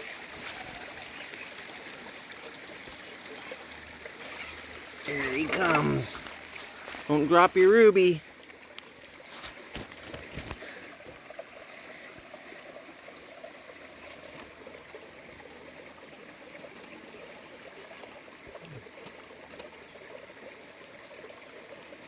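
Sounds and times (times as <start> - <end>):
small stream trickling: 0.0 - 22.0.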